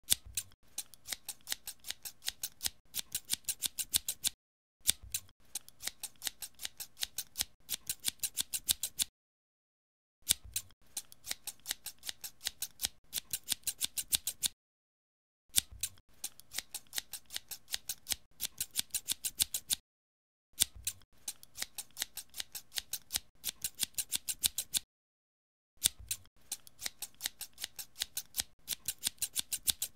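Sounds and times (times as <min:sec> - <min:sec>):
scissors snipping: 0:00.1 - 0:09.1, 0:10.2 - 0:14.6, 0:15.5 - 0:19.8, 0:20.6 - 0:24.9, 0:25.8 - 0:29.9.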